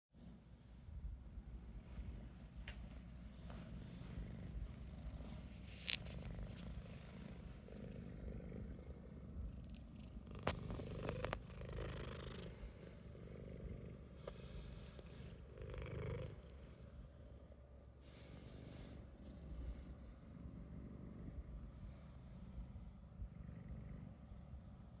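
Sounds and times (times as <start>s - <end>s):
cat purring: 0.2s - 25.0s.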